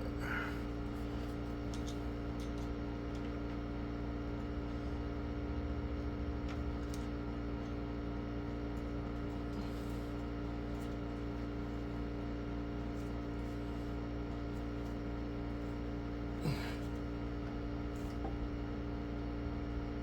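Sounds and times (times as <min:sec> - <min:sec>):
steady tonal hum: 0:00.0 - 0:20.0.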